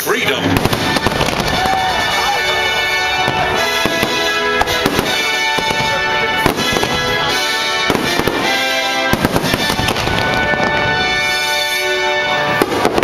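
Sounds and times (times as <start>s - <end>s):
loud patriotic show music: 0.0s - 13.0s
fireworks bangs: 0.1s - 13.0s.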